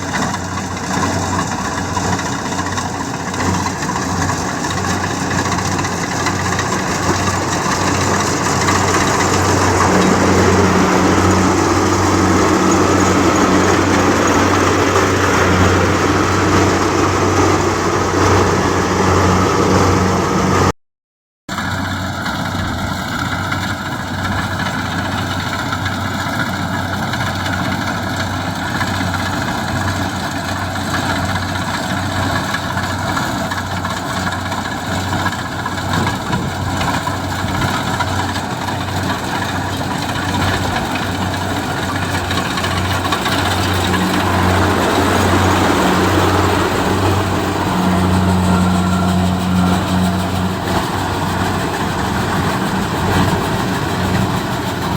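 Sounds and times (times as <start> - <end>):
diesel engine running: 0.0 - 20.8, 21.5 - 54.9.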